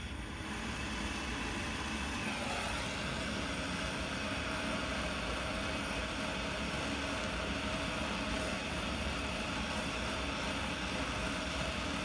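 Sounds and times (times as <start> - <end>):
gas torch flame hissing: 0.0 - 12.0.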